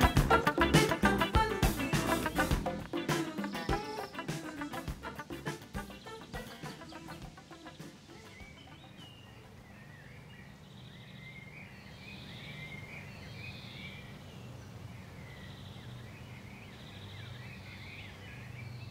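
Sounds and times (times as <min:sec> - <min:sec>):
birds chirping and warbling: 0:00.0 - 0:18.9.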